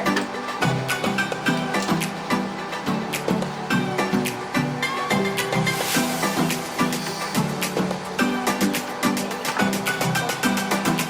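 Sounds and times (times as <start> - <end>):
upbeat music with plucked guitar: 0.0 - 11.0.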